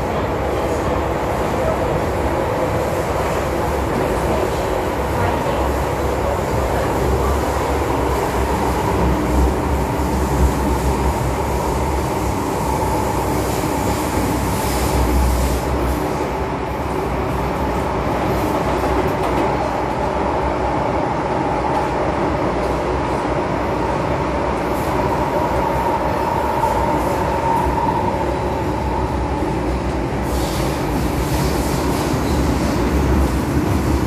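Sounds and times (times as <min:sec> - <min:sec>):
train whine: 0:00.0 - 0:34.0.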